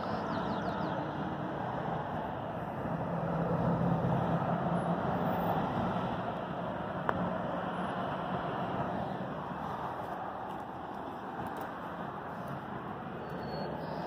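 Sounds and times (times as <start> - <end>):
engine hum: 0.0 - 14.0
road traffic passing: 0.0 - 14.0.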